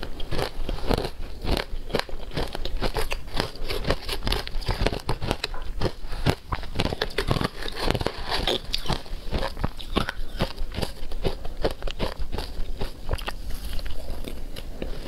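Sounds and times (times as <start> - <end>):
ice crunching being chewed: 0.0 - 15.0.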